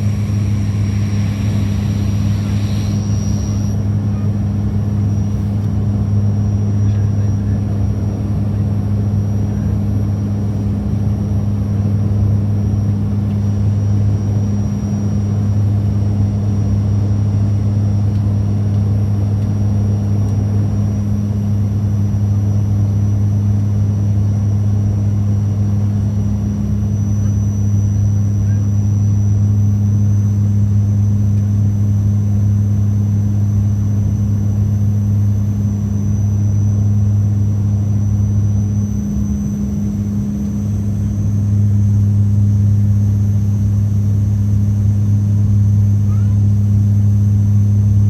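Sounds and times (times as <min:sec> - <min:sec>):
engine and airflow rumble: 0:00.0 - 0:48.0
propeller hum: 0:00.0 - 0:48.0.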